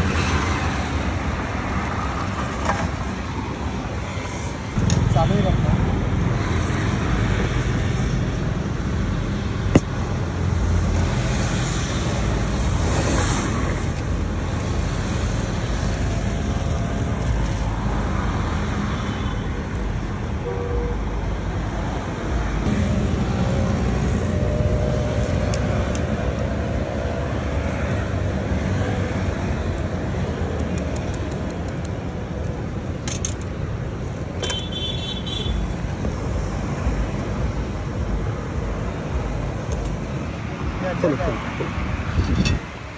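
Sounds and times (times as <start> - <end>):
street traffic noise: 0.0 - 42.9.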